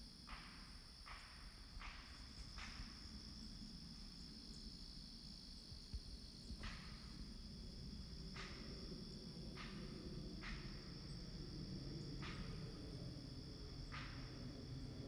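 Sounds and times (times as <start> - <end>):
distant airplane rumble: 0.0 - 15.0
high insect drone: 0.0 - 15.0.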